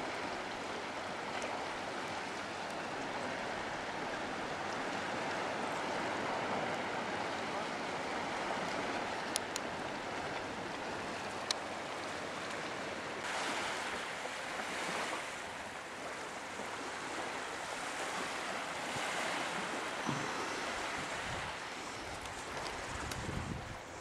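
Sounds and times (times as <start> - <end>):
water sloshing around kayak: 0.0 - 24.0.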